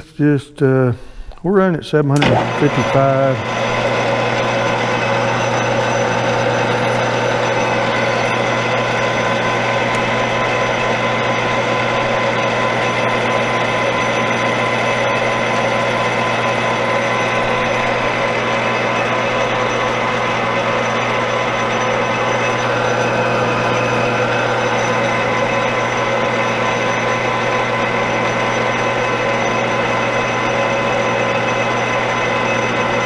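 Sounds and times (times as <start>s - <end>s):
metal lathe running: 2.2s - 33.0s.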